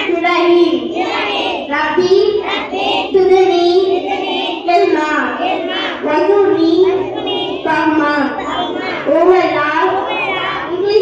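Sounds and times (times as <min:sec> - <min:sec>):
girl chanting a prayer: 0:00.0 - 0:11.0.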